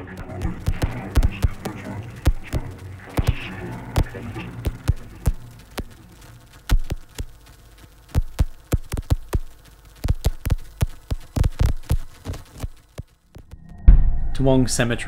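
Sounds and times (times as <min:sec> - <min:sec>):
sharp clicks and crackles: 0:00.0 - 0:13.8
low steady hum: 0:00.0 - 0:15.0.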